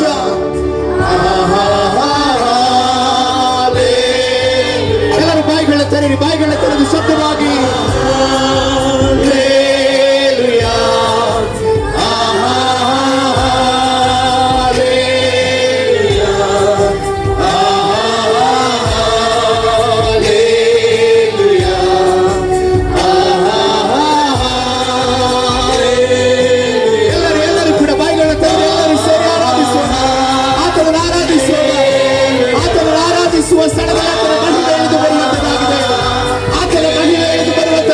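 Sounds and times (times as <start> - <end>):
group of voices singing: 0.0 - 37.9
instrumental accompaniment: 0.0 - 37.9.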